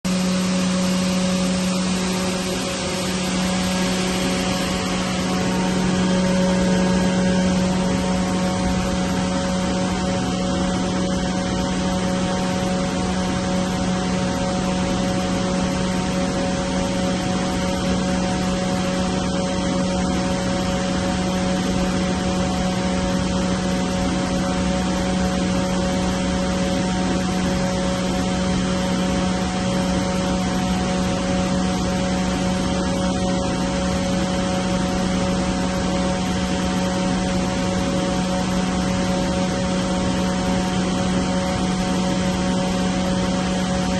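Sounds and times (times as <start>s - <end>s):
air compressor humming: 0.1s - 43.9s.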